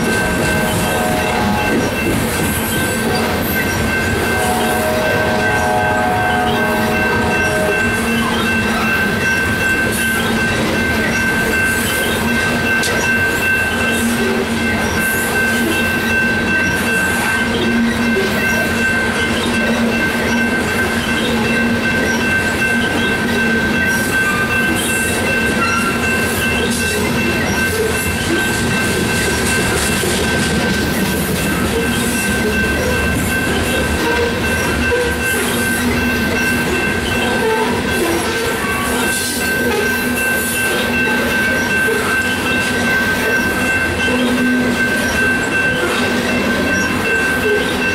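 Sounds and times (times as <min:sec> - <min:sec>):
train wheels rumbling on rail: 0:00.0 - 0:47.9
clickety-clack over rail joints: 0:06.4 - 0:47.9.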